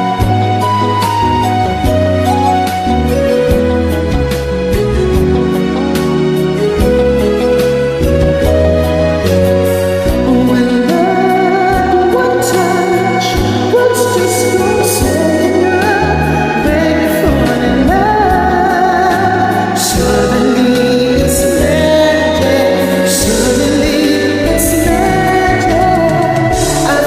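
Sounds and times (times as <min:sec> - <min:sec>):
pop ballad with singing: 0:00.0 - 0:27.0.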